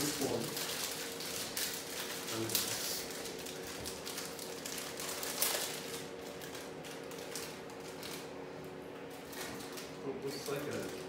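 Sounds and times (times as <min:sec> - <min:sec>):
plastic snack packet crinkling: 0:00.0 - 0:08.3, 0:09.3 - 0:11.0.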